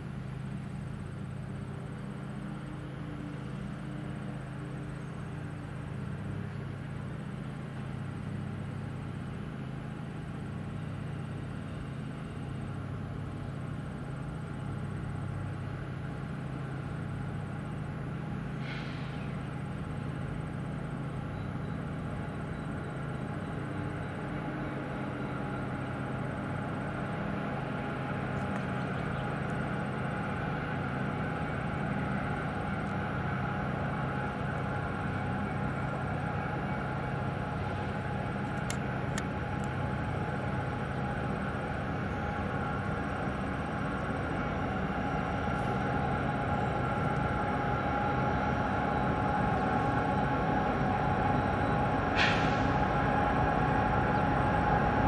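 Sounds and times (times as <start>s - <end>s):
diesel locomotive engines droning: 0.0s - 55.0s.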